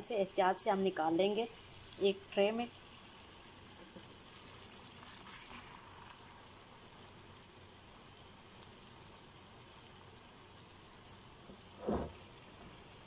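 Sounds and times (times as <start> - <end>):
food sizzling faintly in a pan: 0.0 - 13.0.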